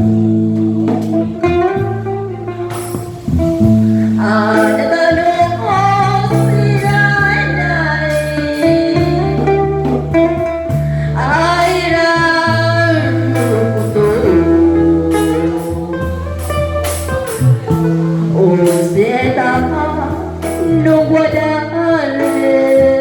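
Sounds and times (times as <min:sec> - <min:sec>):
guitar: 0:00.0 - 0:23.0
saxophone melody: 0:00.0 - 0:23.0
sustained bass: 0:00.0 - 0:23.0.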